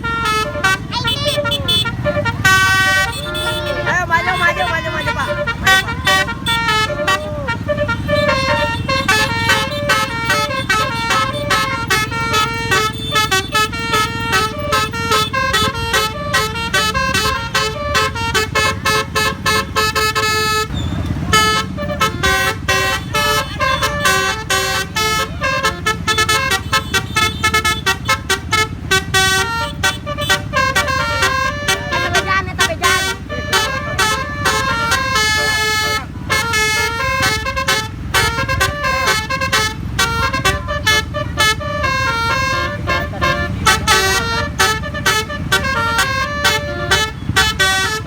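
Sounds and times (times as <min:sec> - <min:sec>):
bus air horn playing a melody: 0:00.0 - 0:48.0
engine and road noise: 0:00.0 - 0:48.0.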